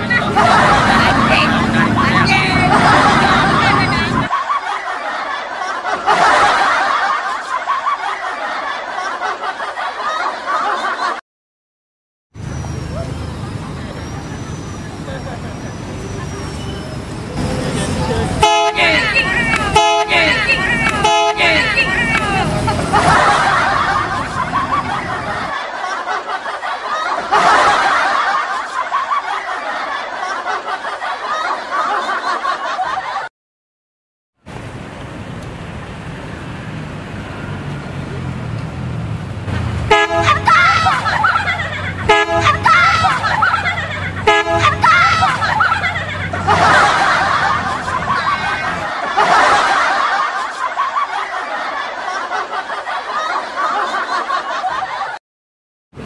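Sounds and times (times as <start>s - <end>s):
people snickering and laughing: 0.0s - 11.2s, 13.4s - 16.5s, 17.4s - 33.3s, 40.2s - 55.2s.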